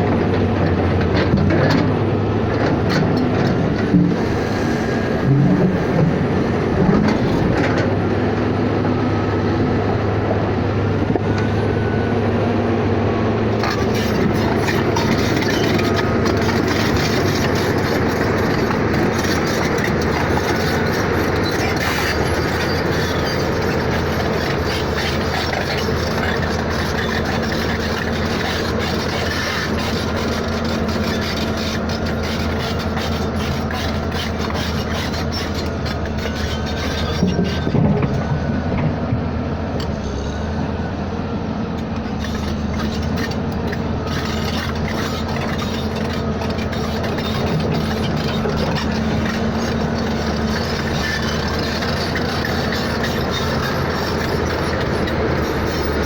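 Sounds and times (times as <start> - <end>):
moving vehicle rumble: 0.0 - 56.0.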